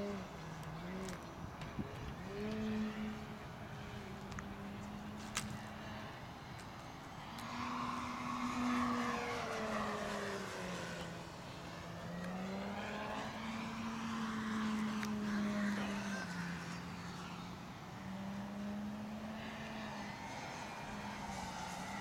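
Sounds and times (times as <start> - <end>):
model plane motor droning: 0.0 - 22.0.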